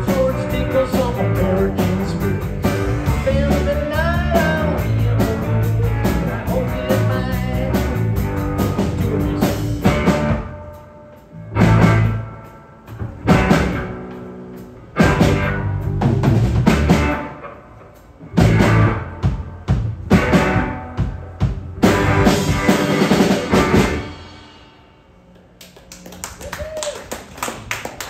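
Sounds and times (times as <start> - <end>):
big accented band hits: 0.0 - 10.9, 11.5 - 14.3, 14.9 - 24.9
live rock band playing: 0.0 - 25.6.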